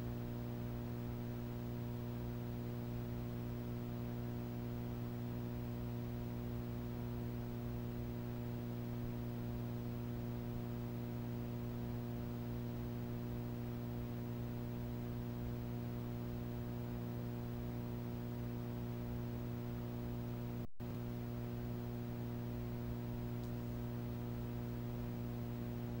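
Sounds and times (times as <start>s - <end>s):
electrical hum with hiss: 0.0s - 26.0s.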